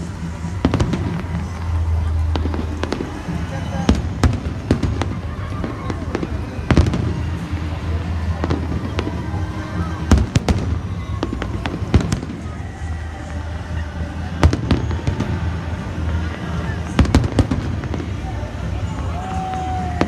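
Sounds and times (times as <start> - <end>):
fireworks banging: 0.0 - 20.0.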